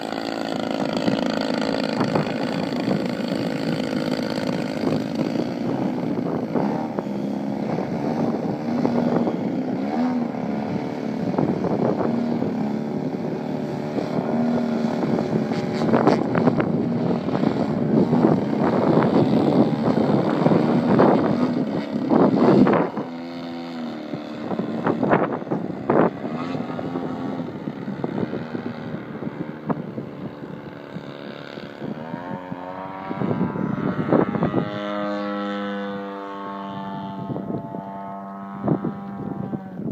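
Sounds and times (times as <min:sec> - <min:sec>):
model plane engine revving: 0:00.0 - 0:39.9.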